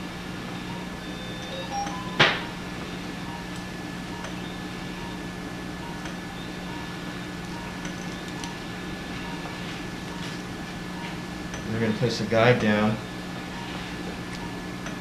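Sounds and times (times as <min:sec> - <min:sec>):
electrical equipment hum: 0:00.0 - 0:15.0.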